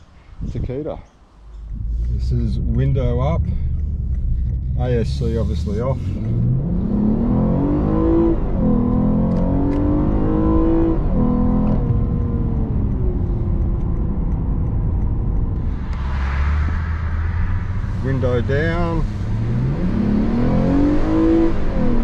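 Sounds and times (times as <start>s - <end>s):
car engine accelerating: 1.3s - 22.0s.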